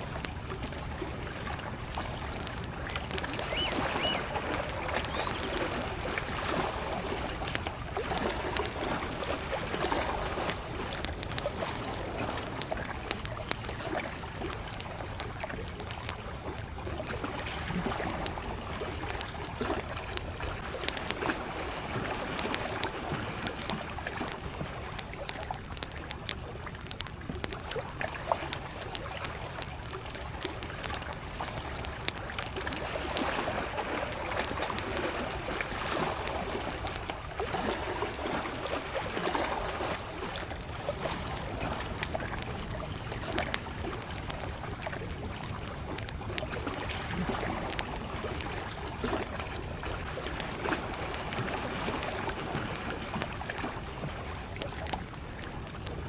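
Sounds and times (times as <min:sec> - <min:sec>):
campfire crackling and popping: 0:00.0 - 0:56.0
small waves lapping: 0:00.0 - 0:56.0.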